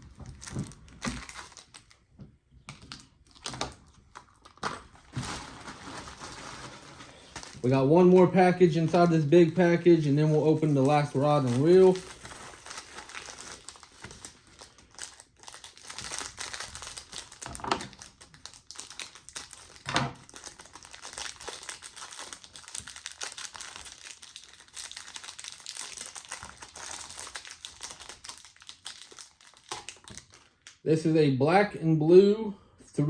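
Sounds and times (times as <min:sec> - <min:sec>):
plastic package crinkling: 0:00.0 - 0:02.0, 0:02.7 - 0:30.8.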